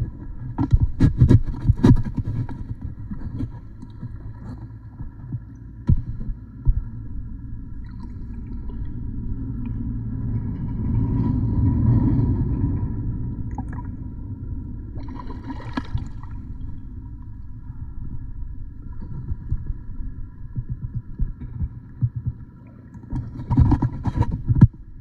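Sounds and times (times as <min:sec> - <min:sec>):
muffled underwater water rumble: 0:00.0 - 0:25.0.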